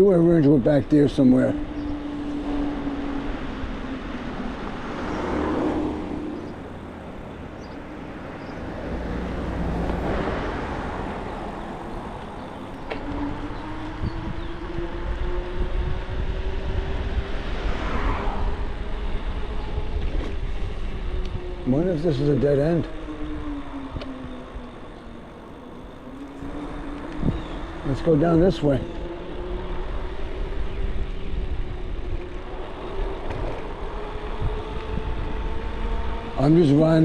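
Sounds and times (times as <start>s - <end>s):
e-bike motor whining: 0.0s - 37.0s
traffic passing by: 0.0s - 37.0s
wind and tyre rumble: 0.0s - 37.0s.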